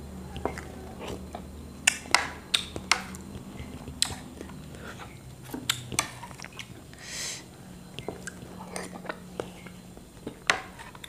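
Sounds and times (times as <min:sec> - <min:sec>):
mouth clicks and smacks: 0:00.3 - 0:11.0.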